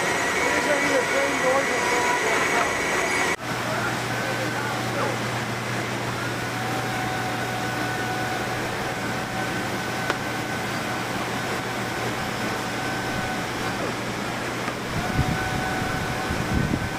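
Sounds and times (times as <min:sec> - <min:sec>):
high whine: 0:00.0 - 0:16.9
machinery hum and hiss: 0:00.0 - 0:16.9.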